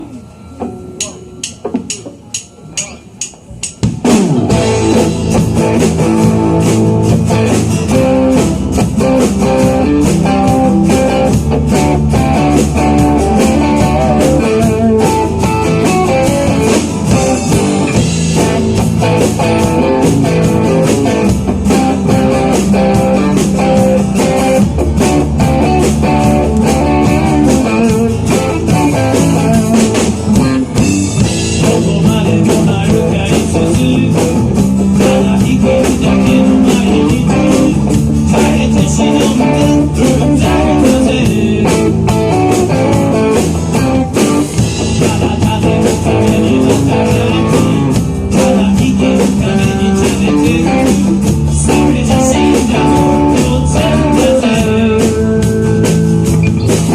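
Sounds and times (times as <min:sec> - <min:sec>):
rock band playing live: 0:00.0 - 0:56.9.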